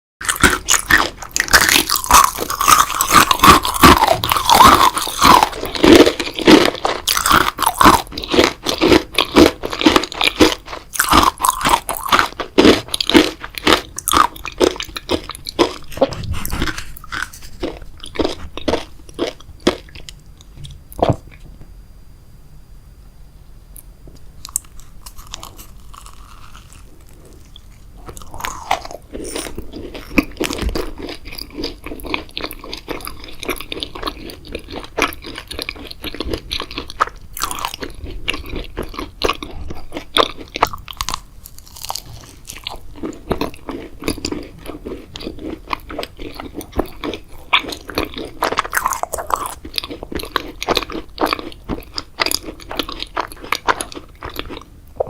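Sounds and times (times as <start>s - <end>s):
person crunching and chewing sweets: 0.2s - 21.4s, 23.8s - 55.0s.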